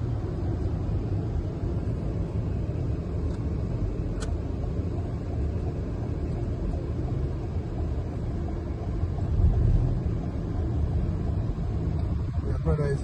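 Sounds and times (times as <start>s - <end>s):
road and engine rumble in cabin: 0.0s - 13.0s.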